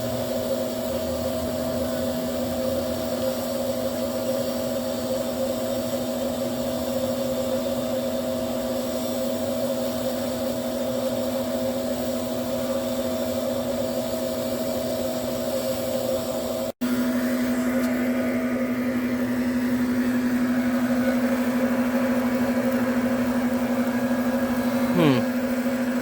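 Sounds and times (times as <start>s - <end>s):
blower motor hum: 0.0s - 26.0s.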